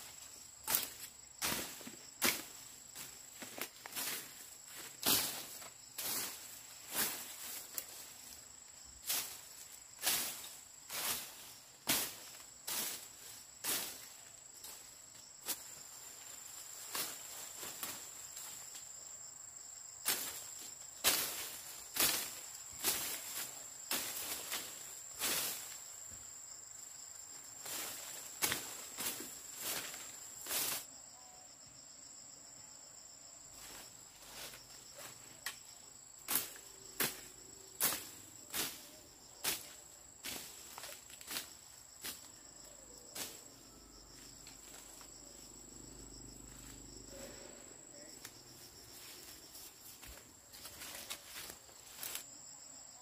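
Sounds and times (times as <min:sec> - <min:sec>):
crickets chirping: 0:00.0 - 0:53.0
insects trilling: 0:00.0 - 0:53.0.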